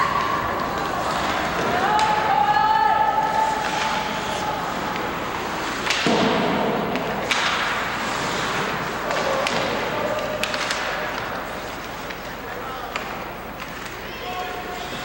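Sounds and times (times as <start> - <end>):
arena noise: 0.0 - 15.0
hockey sticks and puck clacking: 0.0 - 15.0.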